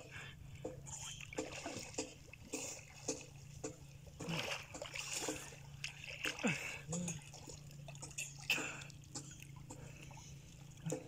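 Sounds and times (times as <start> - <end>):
water splashing: 0.1 - 11.0.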